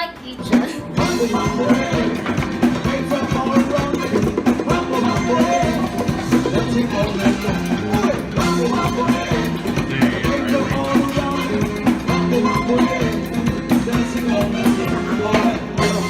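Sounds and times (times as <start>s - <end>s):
upbeat latin music: 0.0s - 16.0s.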